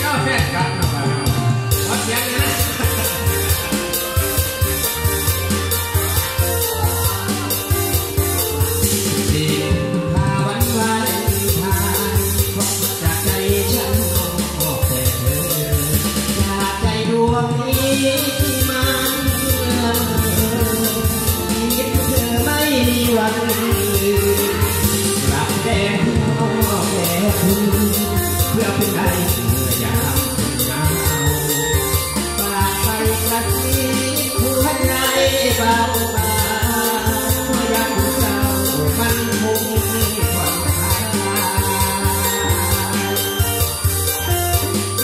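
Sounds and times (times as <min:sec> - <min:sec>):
man singing through a microphone: 0:00.0 - 0:05.2, 0:05.8 - 0:44.6
guitar: 0:00.0 - 0:45.0
keyboard: 0:00.0 - 0:45.0
steady drum beat: 0:00.8 - 0:45.0.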